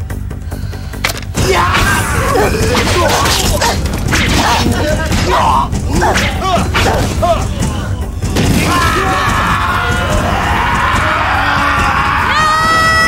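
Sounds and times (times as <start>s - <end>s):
low pulsing film score: 0.0s - 13.0s
fighters shouting: 1.4s - 13.0s.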